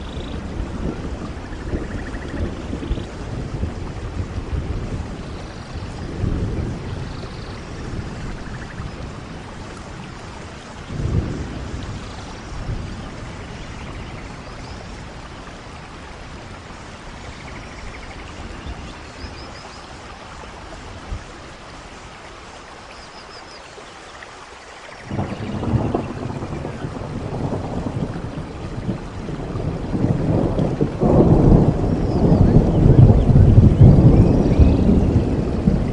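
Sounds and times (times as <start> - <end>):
thunder rumbles: 0.0 - 21.9, 25.0 - 35.9
heavy rain: 0.0 - 35.9.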